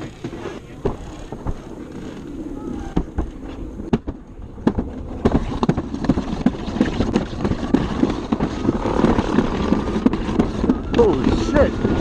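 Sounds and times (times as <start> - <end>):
sled scraping down concrete track: 0.0 - 12.0.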